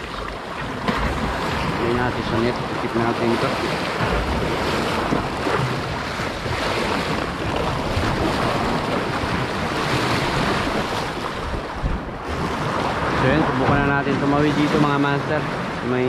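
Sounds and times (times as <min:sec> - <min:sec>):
sea waves: 0:00.0 - 0:16.0
wind buffeting microphone: 0:00.0 - 0:16.0.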